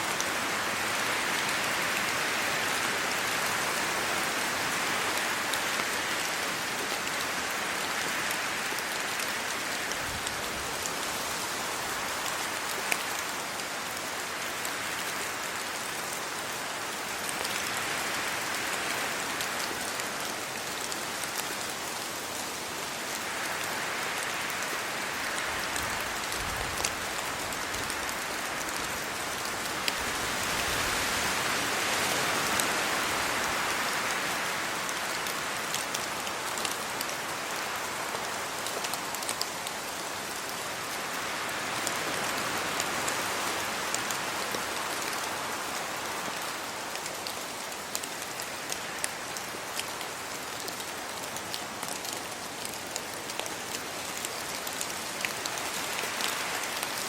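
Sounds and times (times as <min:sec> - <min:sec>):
rain falling on trees and road: 0:00.0 - 0:57.0.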